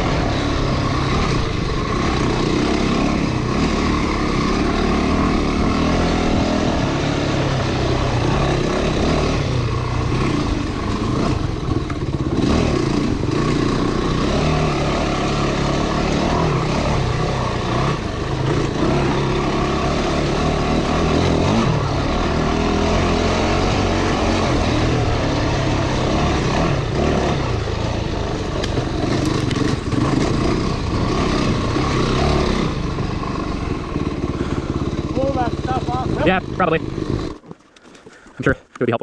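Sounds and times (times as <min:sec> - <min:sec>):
off-road motorcycle engine: 0:00.0 - 0:39.0.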